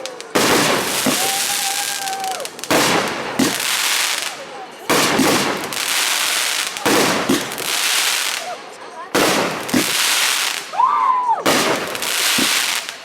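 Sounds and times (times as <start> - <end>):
crackling hiss of fireworks: 0.0 - 13.0
fireworks bangs: 0.0 - 13.0.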